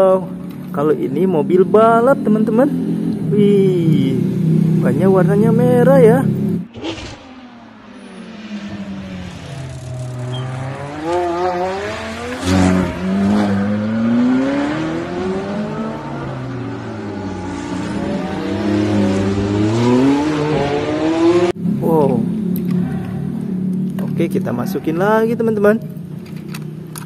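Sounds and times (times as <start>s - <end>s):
sports cars revving past: 1.6s - 24.1s.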